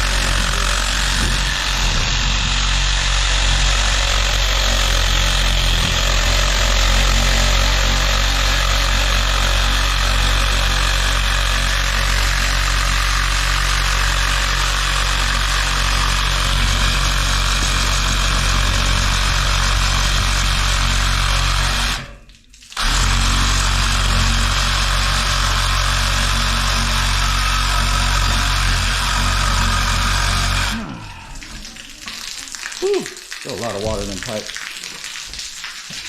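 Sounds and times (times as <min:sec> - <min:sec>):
power saw cutting steel pipe: 0:00.0 - 0:31.8.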